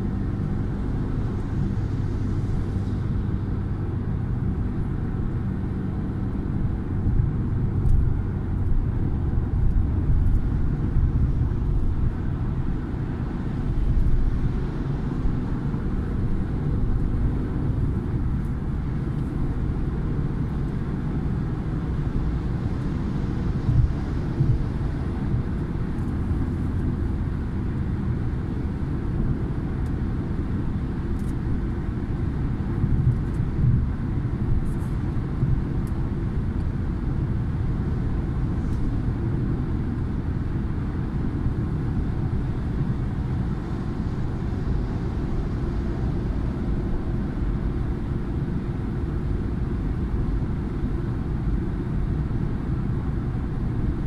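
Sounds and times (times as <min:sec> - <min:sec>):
car road rumble from inside: 0:00.0 - 0:54.0.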